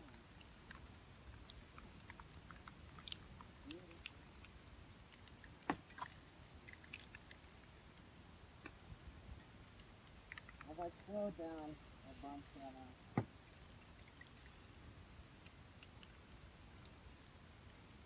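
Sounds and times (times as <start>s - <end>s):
faint clicks and ticks: 0.0s - 8.8s, 9.4s - 11.2s, 13.4s - 17.8s.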